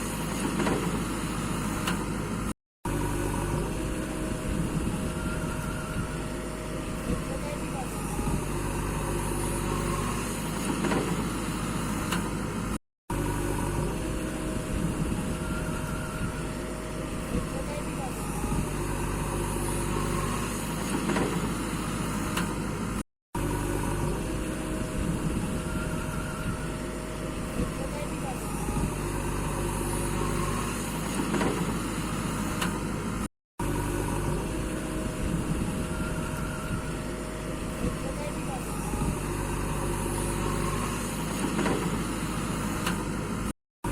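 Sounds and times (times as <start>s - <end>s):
construction machinery engines running: 0.0s - 43.9s.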